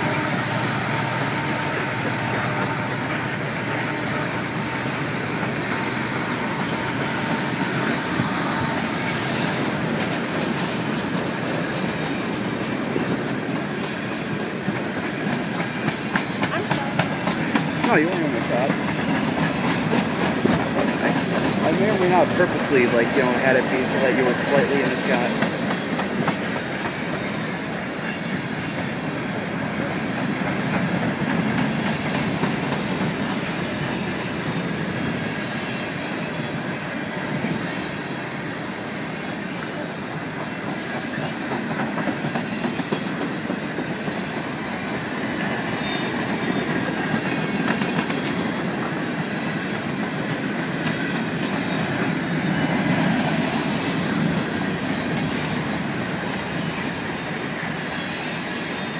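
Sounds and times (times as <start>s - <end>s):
train wheels rumbling on rail: 0.0s - 58.9s
wheels clicking over rail joints: 7.5s - 57.7s.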